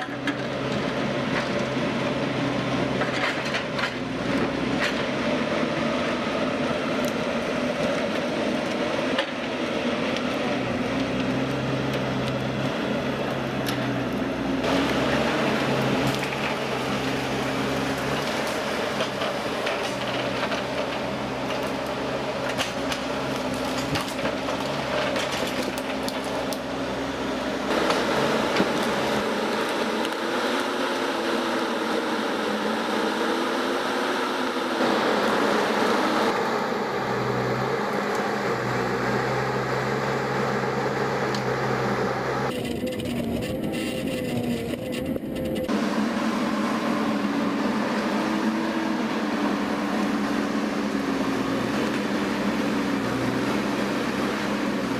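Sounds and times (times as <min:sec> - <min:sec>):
machinery running: 0:00.0 - 0:54.9.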